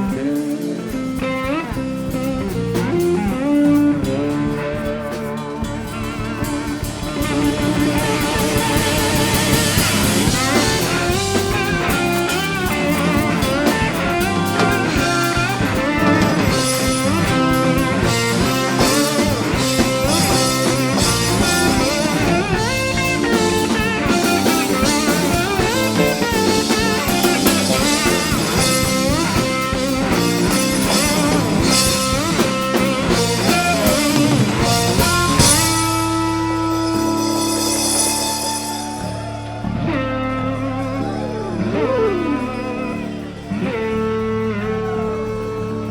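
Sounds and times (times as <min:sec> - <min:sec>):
bass guitar: 0:00.0 - 0:45.9
drum kit: 0:00.0 - 0:45.9
slide guitar lead: 0:00.0 - 0:45.9.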